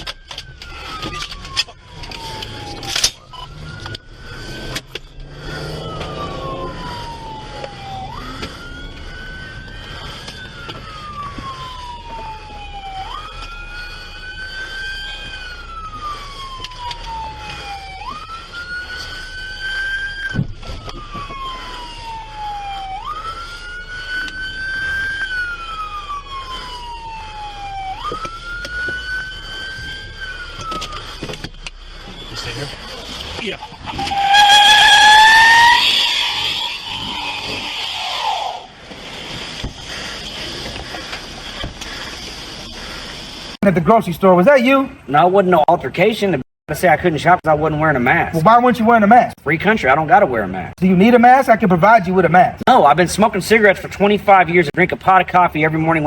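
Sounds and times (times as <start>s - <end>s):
emergency siren wailing: 0.0s - 56.0s.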